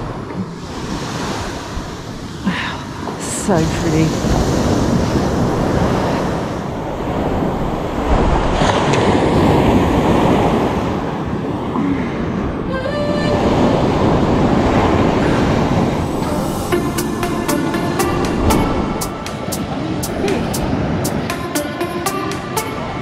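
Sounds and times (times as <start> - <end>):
wind buffeting microphone: 0.0 - 21.3
surf breaking on beach: 0.0 - 22.8.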